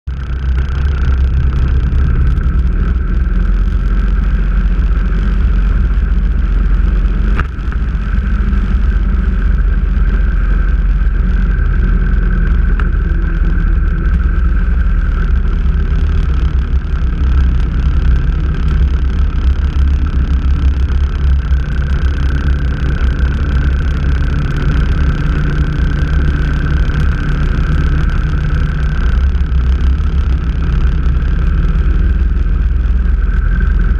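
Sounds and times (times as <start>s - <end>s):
motorcycle engine cruising: 0.0s - 33.9s
wind rushing over microphone: 0.1s - 33.9s.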